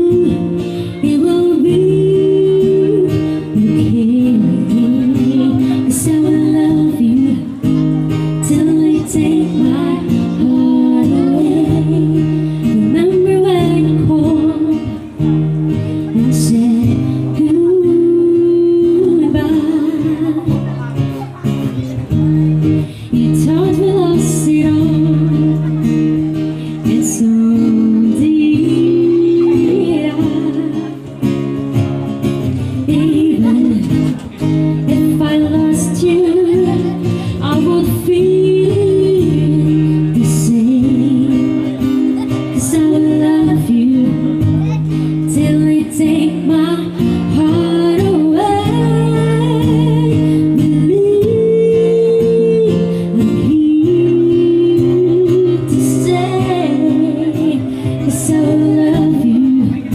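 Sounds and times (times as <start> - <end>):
person singing: 0.0 - 21.5, 22.7 - 31.2, 32.4 - 59.9
strummed acoustic guitar: 0.0 - 59.9.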